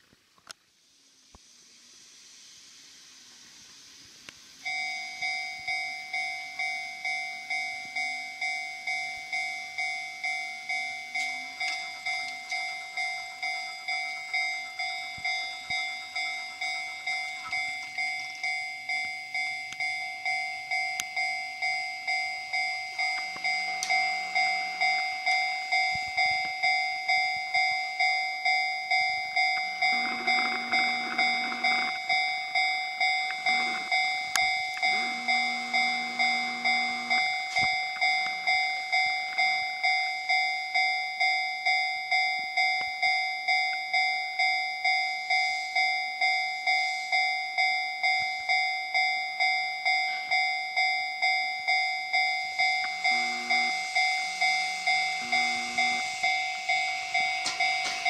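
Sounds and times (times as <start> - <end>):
electric train running: 0.0 - 58.0
level crossing warning bell: 4.4 - 58.0.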